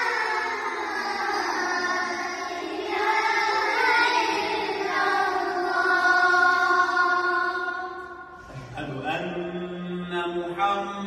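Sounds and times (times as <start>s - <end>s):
boys chanting call to prayer: 0.0s - 11.0s.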